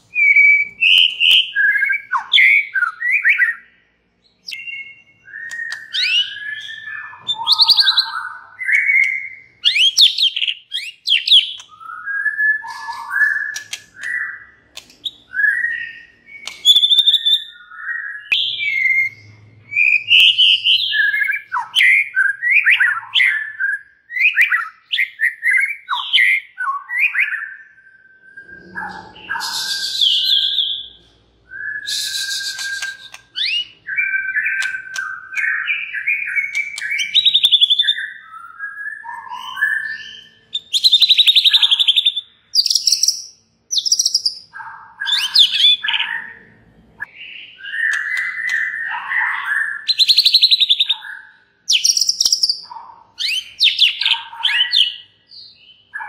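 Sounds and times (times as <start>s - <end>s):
bird singing whistled song: 0.0s - 56.0s.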